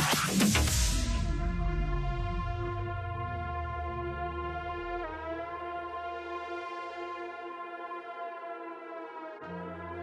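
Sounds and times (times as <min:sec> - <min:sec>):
sustained synthesizer chord: 0:00.9 - 0:10.0.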